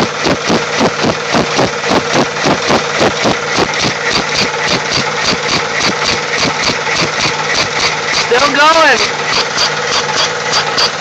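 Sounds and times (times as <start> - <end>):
air engine puffing: 0.0 - 11.0.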